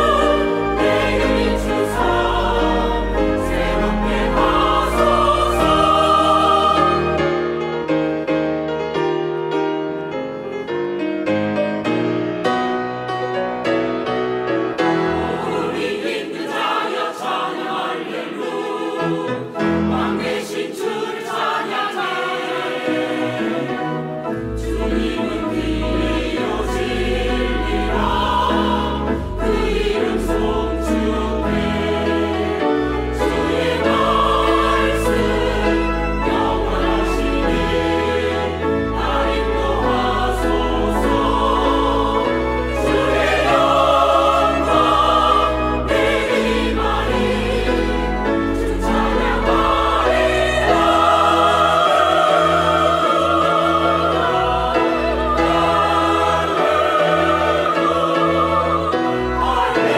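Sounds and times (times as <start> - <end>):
choir singing a hymn: 0.0 - 8.4, 14.7 - 59.9
piano accompaniment: 0.0 - 59.9.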